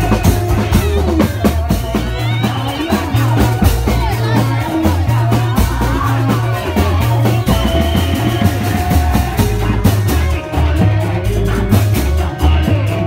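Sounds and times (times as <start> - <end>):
busy drumming: 0.0 - 13.0
deep bass line: 0.0 - 13.0.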